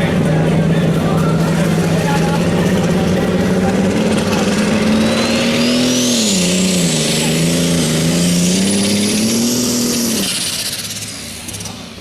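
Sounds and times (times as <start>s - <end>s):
diesel engine running hard: 0.0s - 12.0s
high turbo whine: 0.0s - 12.0s.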